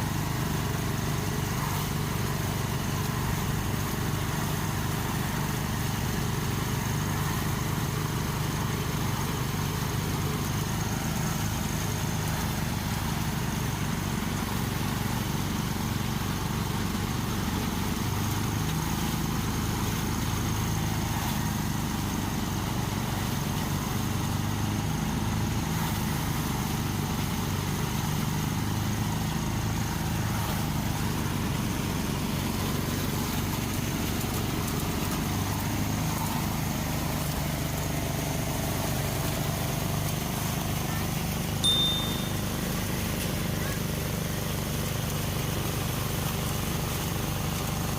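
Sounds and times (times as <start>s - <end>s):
small engine running: 0.0s - 47.9s.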